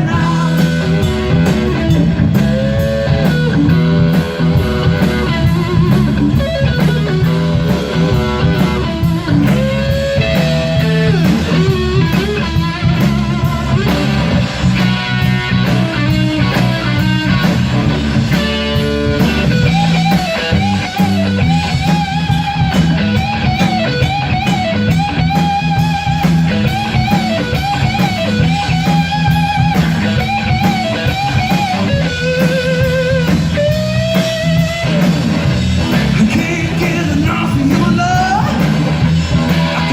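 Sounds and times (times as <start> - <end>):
bass: 0.0 - 39.9
drums: 0.0 - 39.9
electric guitar rock lead: 0.0 - 39.9.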